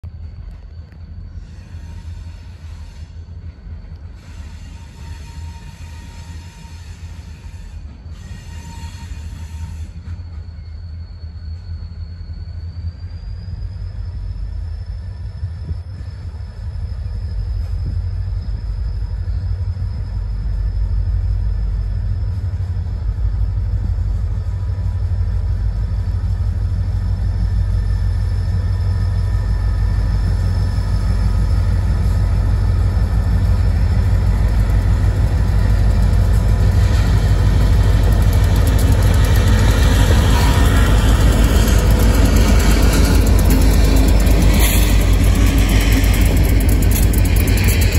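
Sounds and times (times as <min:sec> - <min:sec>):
diesel locomotive engine rumble: 0:00.0 - 0:47.9.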